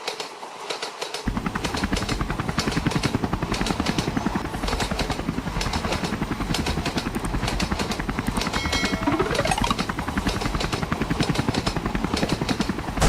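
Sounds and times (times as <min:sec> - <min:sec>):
helicopter rotor chopping: 0:01.2 - 0:13.0
low engine drone: 0:01.3 - 0:12.1.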